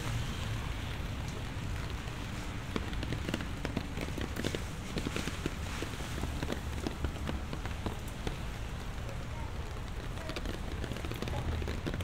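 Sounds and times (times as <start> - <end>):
raindrops tapping: 0.0 - 12.0.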